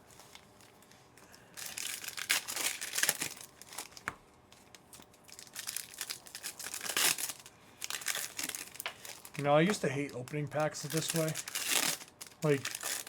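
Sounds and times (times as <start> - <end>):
wrappers torn and crinkled: 0.0 - 13.0.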